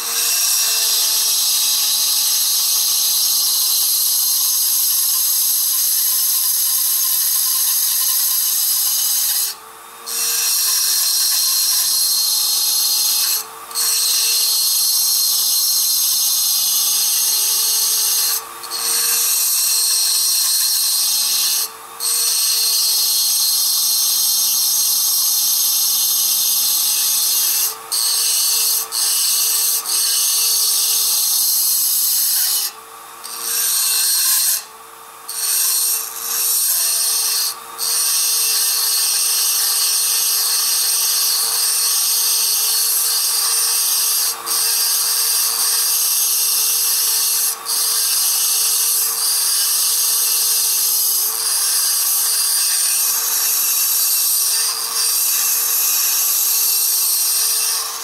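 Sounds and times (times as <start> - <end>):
rotary tool grinding steel: 0.0 - 58.0.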